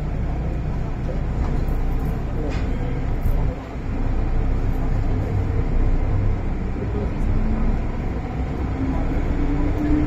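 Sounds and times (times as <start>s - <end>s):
train car rumble: 0.0s - 10.0s.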